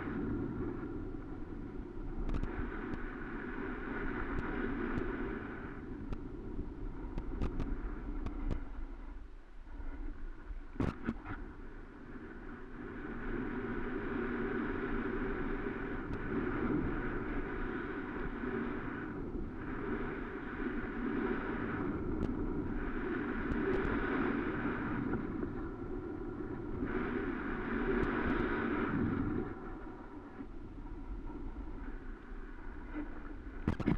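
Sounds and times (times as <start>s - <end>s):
wind on microphone: 0.0s - 33.9s.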